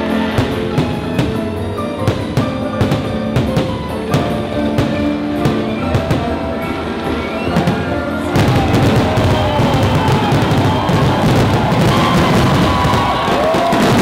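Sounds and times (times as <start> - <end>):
firework shells bursting: 0.0 - 14.0
orchestral music over loudspeakers: 0.0 - 14.0.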